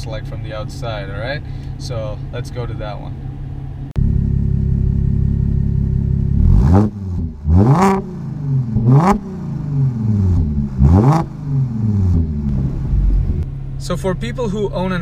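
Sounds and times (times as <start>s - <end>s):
car exhaust idling and revving: 0.0s - 15.0s.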